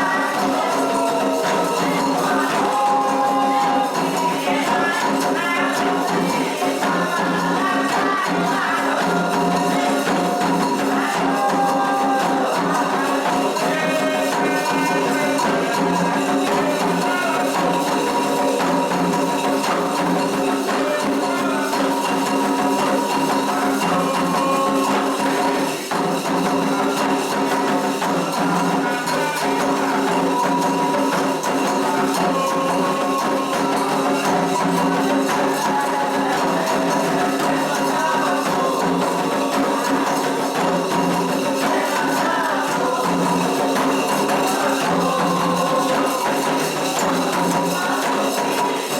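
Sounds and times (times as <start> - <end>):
shaken and struck percussion: 0.0 - 48.9
voices chanting: 0.0 - 48.9.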